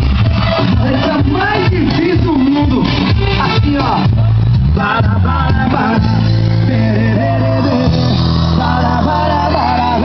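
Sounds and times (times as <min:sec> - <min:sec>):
loud music with singing: 0:00.0 - 0:10.0.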